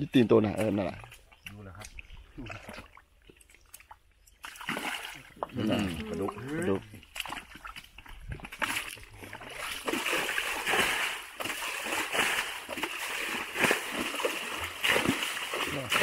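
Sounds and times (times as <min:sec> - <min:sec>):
mud and water splashing: 0:00.0 - 0:16.0.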